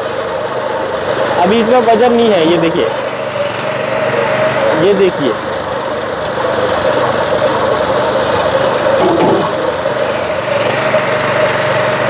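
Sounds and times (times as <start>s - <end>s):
small petrol engine running: 0.0s - 12.0s.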